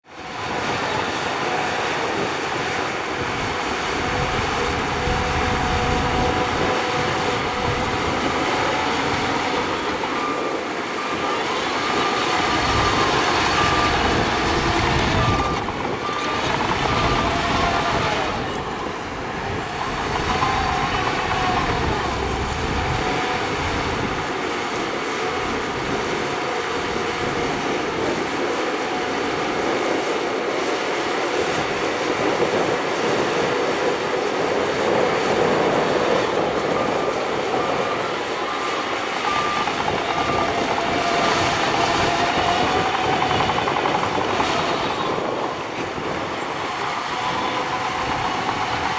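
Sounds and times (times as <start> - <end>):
bulldozer engine under load: 0.1 - 48.9.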